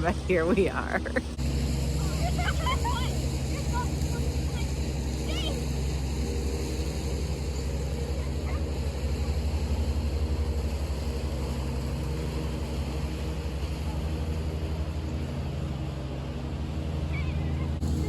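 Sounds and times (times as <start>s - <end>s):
lawnmower engine running: 0.0s - 18.0s.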